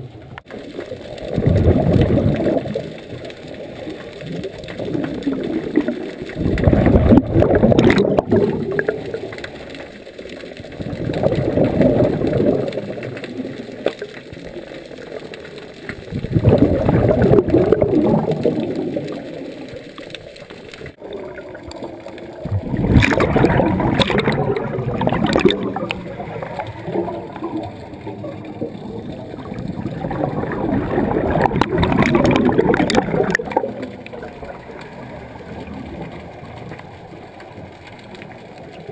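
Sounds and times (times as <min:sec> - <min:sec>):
scuba regulator bubbles gurgling: 0:00.0 - 0:38.9.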